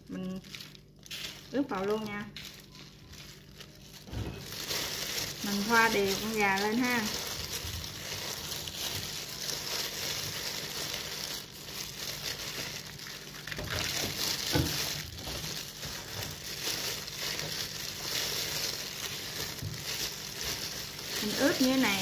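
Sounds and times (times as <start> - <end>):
plastic gloves crinkling: 0.0 - 22.0.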